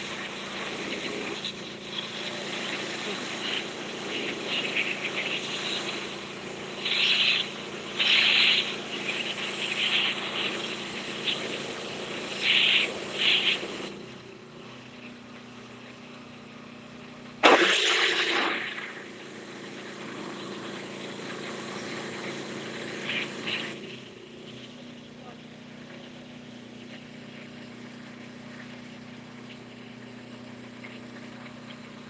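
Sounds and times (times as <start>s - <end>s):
high-pressure spray hissing on concrete: 0.0s - 14.2s, 17.4s - 32.0s
pressure washer engine running: 0.0s - 32.0s.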